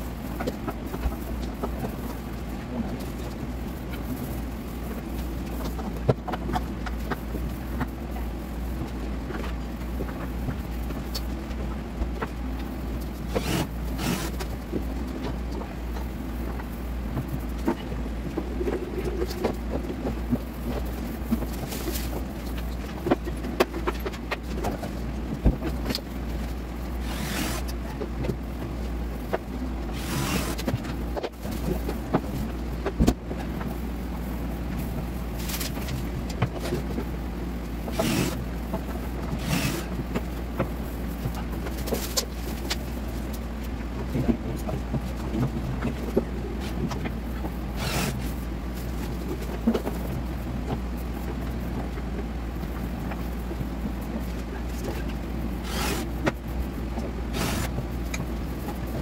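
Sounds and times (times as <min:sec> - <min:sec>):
low hum: 0:00.0 - 0:59.0.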